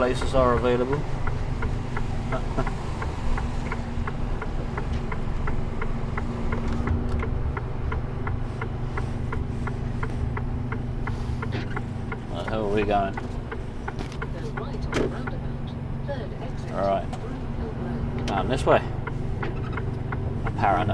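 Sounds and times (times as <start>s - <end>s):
diesel engine drone: 0.0s - 20.9s
turn signal ticking: 0.0s - 20.9s.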